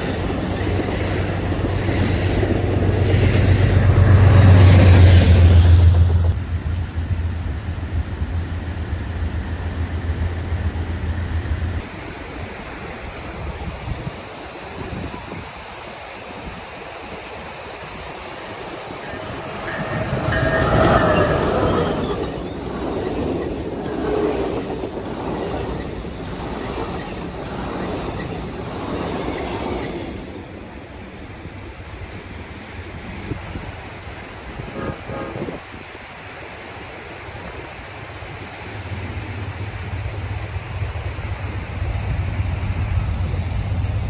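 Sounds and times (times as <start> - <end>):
passenger train passing: 0.0 - 44.0.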